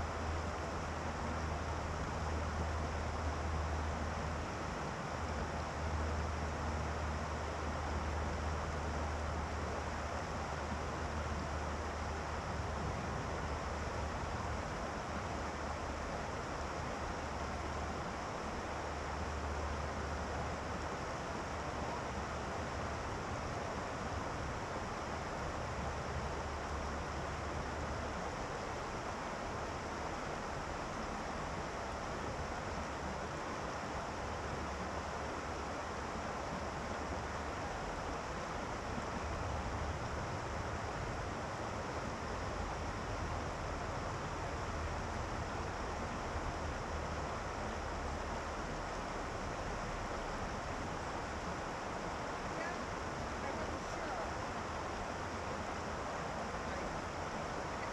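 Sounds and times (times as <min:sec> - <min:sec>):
river water rushing over rocks: 0:00.0 - 0:57.9.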